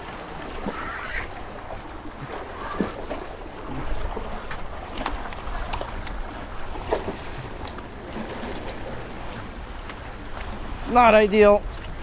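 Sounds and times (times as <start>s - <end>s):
surf rumbling against rocks: 0.0s - 12.0s
wind: 0.0s - 12.0s.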